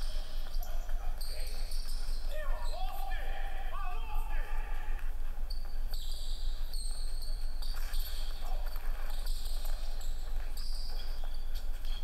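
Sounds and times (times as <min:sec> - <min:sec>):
sneakers squeaking: 0:00.0 - 0:03.2, 0:05.5 - 0:12.0.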